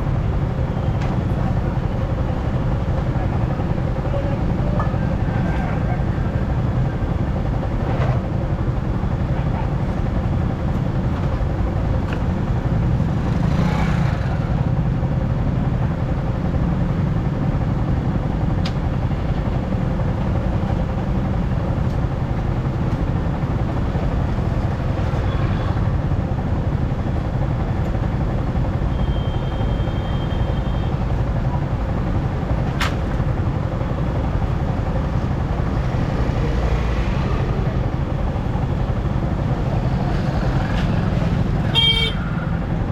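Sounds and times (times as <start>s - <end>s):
vehicle rumbling: 0.0s - 42.9s.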